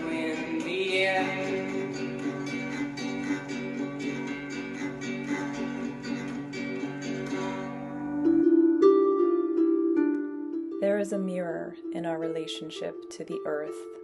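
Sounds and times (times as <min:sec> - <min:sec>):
acoustic guitar strumming: 0:00.0 - 0:14.0
soft plucked strings: 0:00.0 - 0:14.0.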